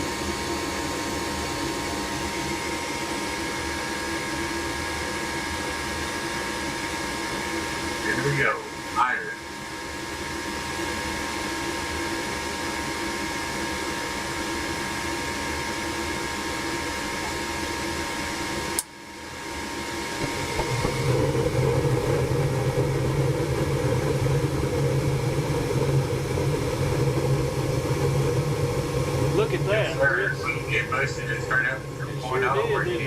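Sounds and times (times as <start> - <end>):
deep furnace burner hum: 0.0 - 33.0
furnace fan hum: 0.0 - 33.0.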